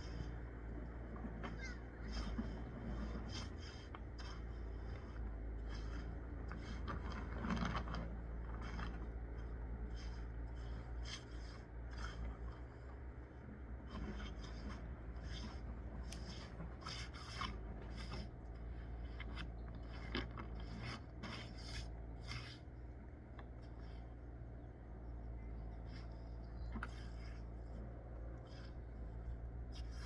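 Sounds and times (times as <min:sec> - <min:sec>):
rasping scraping strokes: 0:00.0 - 0:30.0
steady low hum: 0:00.0 - 0:30.0.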